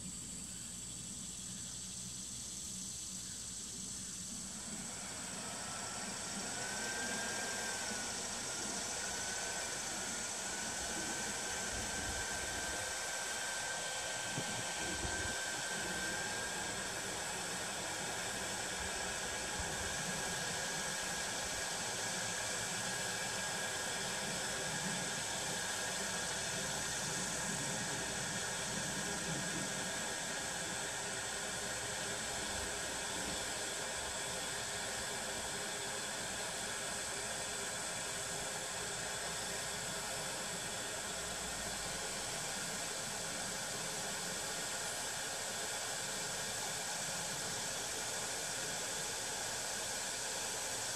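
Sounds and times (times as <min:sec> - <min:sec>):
leaf blower rushing air: 0:00.0 - 0:50.9
motor whine: 0:00.0 - 0:50.9.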